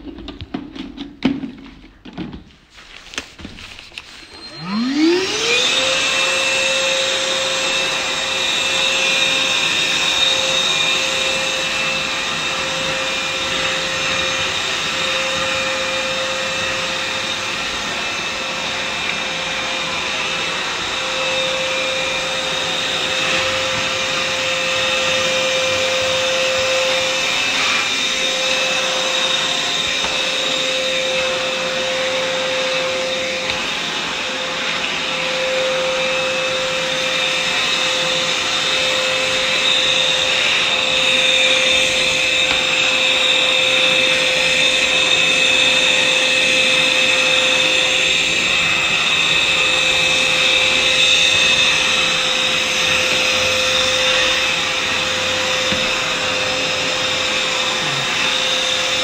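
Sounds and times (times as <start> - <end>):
wet vacuum cleaner whining: 0.0 - 59.0.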